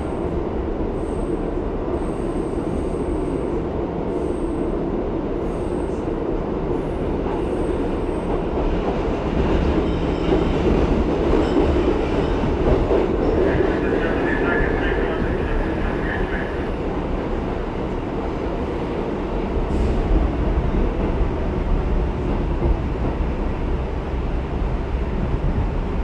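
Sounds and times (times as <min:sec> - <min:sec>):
subway car wheels rumbling: 0:00.0 - 0:26.0.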